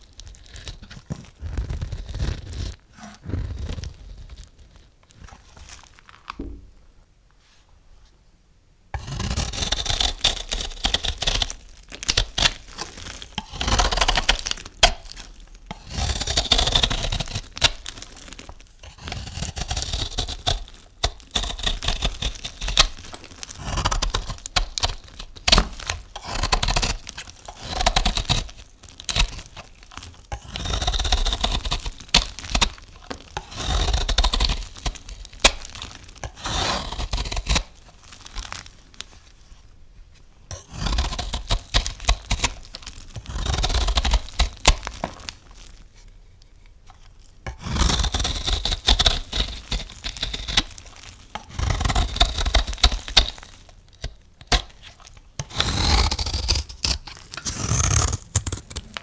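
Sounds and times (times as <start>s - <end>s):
knife cutting through soap: 0.1s - 6.1s, 9.0s - 39.1s, 40.5s - 45.8s, 46.9s - 59.0s.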